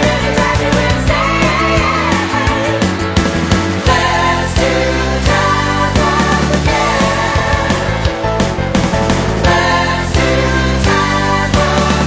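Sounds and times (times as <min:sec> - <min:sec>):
song with drum beat and bass: 0:00.0 - 0:12.0.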